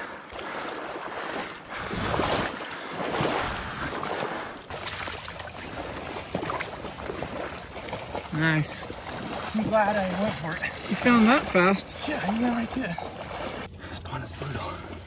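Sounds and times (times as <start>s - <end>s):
water splashing as dog swims: 0.0s - 13.7s
person wading through water: 0.0s - 15.0s.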